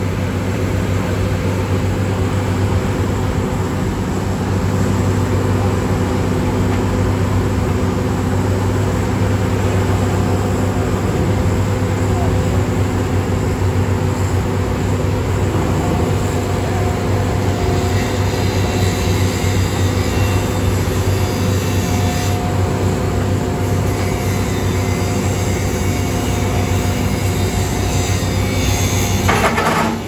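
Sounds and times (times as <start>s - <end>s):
diesel construction machinery running: 0.0s - 30.0s.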